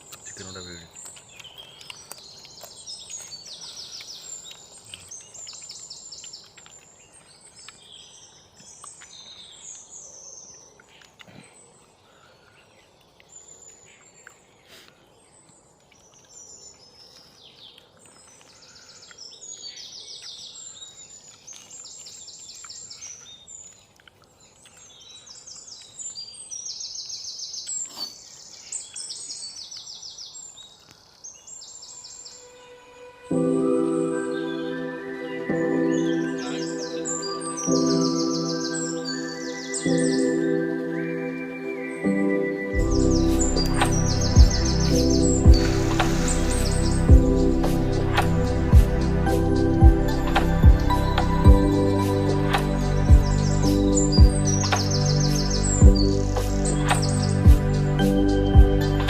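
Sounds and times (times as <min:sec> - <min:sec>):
birds chirping and calling: 0:00.0 - 0:59.0.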